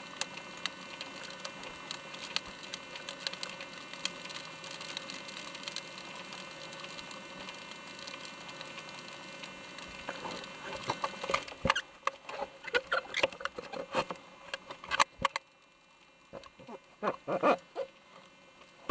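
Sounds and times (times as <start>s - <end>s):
steady hum and hiss: 0.0s - 18.9s.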